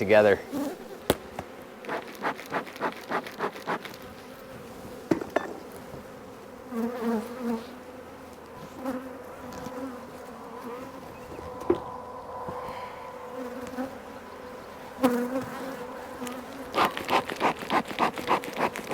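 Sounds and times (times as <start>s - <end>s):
honeybees buzzing: 0.0s - 18.9s.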